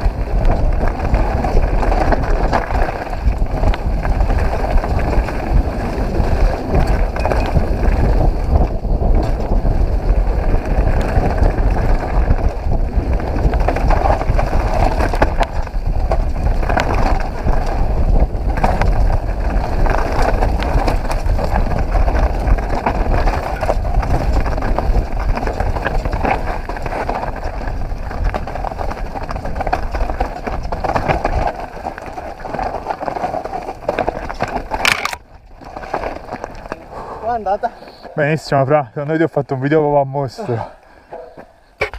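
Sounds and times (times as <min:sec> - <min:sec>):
bike rattling over bumps: 0:00.0 - 0:40.0
bike tyres rumbling on dirt: 0:00.0 - 0:41.9.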